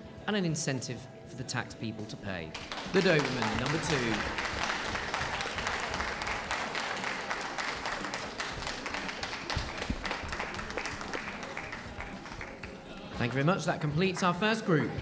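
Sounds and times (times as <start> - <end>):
audience applauding: 2.5 - 15.0.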